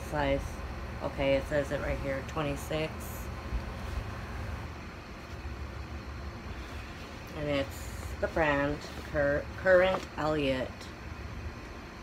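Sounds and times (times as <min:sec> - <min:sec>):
room noise rumble and hiss: 0:00.0 - 0:12.0.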